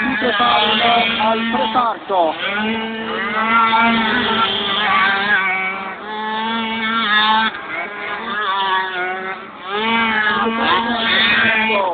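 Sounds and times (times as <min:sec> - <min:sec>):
scooter engines revving: 0:00.0 - 0:11.9.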